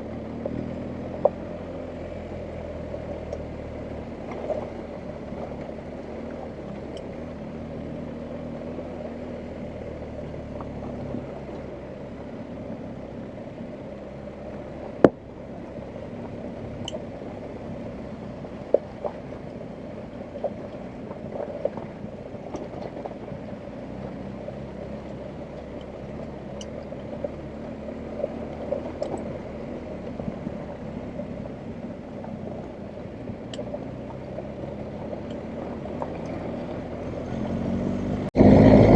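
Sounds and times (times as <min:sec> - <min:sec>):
motorcycle engine at low revs: 0:00.0 - 0:38.9.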